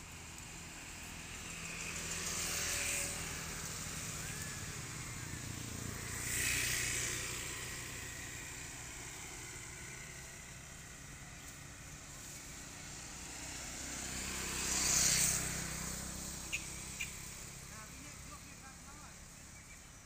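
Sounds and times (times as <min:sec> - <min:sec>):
low engine hum of traffic: 0:00.0 - 0:20.0
vehicle hissing past: 0:00.0 - 0:20.0.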